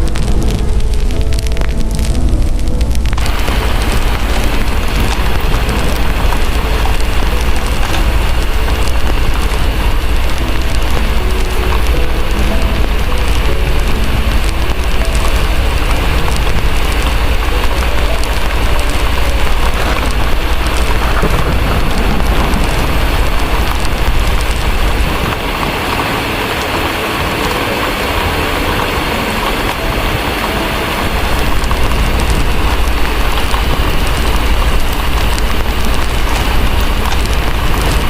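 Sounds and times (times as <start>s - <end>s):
distant thunder rumble: 0.0s - 38.0s
fireplace crackling: 0.0s - 38.0s
heavy rain: 0.0s - 38.0s.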